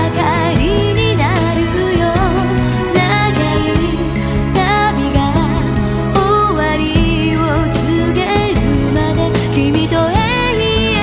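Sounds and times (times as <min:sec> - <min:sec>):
pop song playing: 0:00.0 - 0:11.0.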